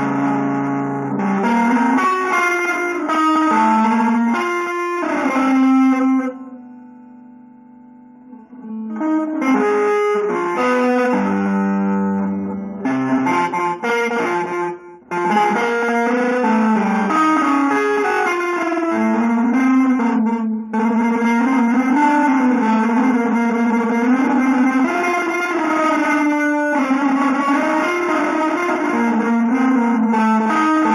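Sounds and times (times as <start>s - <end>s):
guitar playing fast runs: 0.0s - 6.6s, 8.4s - 30.9s.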